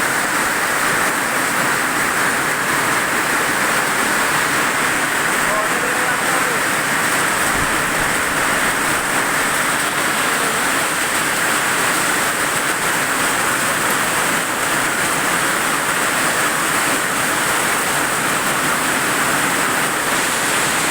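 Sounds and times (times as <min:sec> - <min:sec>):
heavy rain in strong wind: 0:00.0 - 0:20.9.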